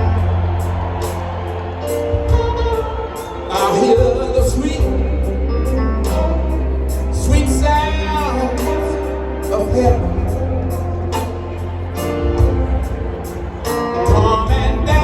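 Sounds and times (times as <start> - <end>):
song with singing over a beat: 0.0 - 15.0.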